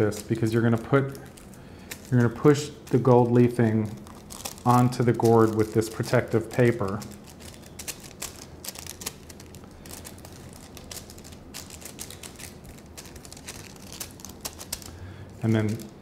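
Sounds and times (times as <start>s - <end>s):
crackle and rustle of paper: 0.0s - 16.0s.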